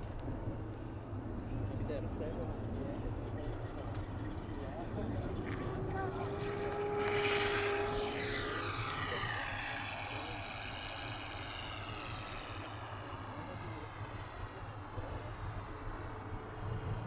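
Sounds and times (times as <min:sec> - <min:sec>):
model airplane engine and propeller: 0:00.0 - 0:17.0.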